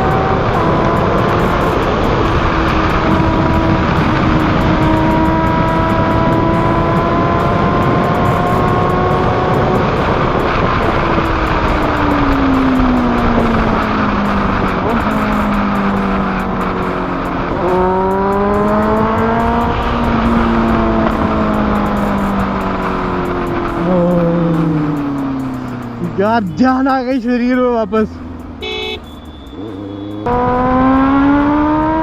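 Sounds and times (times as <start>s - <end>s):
wind rush: 0.0s - 26.4s
motorcycle engine accelerating: 0.0s - 32.0s.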